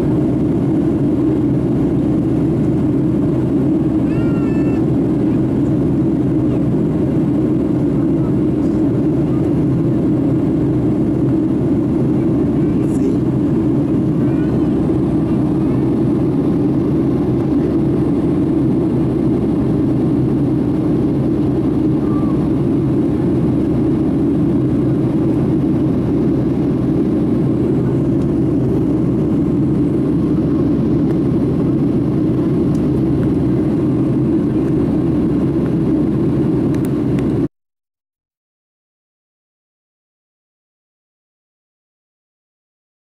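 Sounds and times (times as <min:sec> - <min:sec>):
airplane cabin engine rumble: 0:00.0 - 0:37.5.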